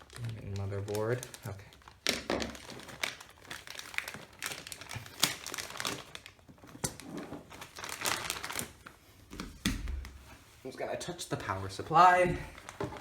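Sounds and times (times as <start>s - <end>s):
plastic bag crinkling: 0.0s - 9.0s, 10.0s - 13.0s.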